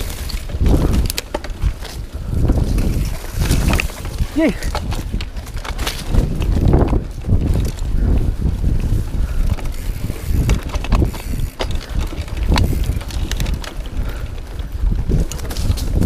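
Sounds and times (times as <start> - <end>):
bike rattling over bumps: 0.0 - 16.0
wind buffeting microphone: 0.0 - 16.0.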